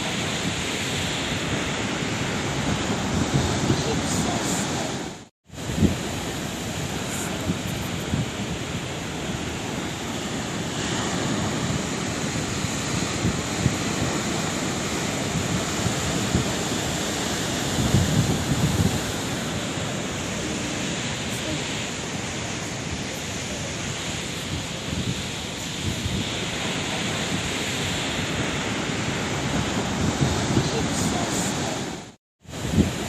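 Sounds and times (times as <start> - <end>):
sea waves washing ashore: 0.0 - 33.0.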